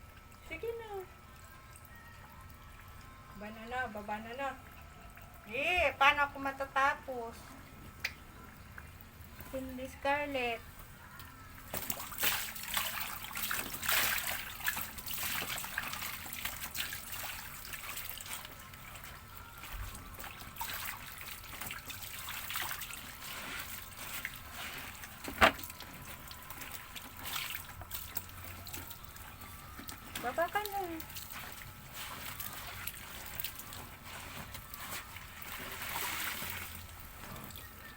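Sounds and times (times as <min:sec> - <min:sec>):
water splashing and trickling: 0:00.0 - 0:37.9.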